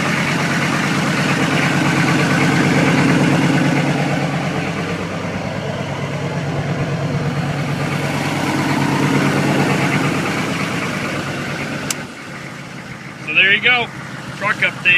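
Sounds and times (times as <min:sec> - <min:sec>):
diesel engine high idle: 0:00.0 - 0:14.9.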